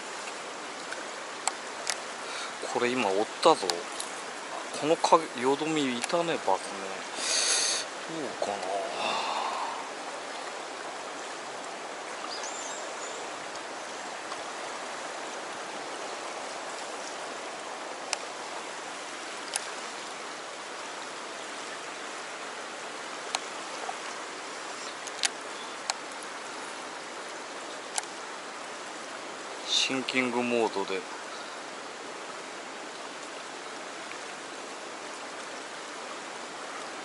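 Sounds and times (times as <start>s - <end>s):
fast-flowing river water: 0.0s - 37.0s.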